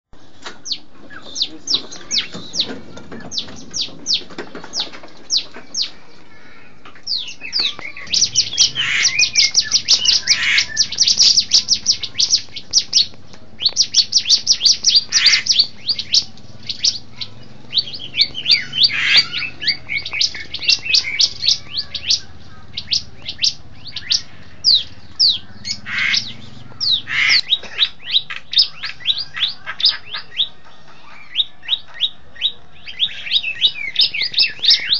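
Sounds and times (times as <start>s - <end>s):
bird calling in sharp high notes: 0.7s - 34.9s.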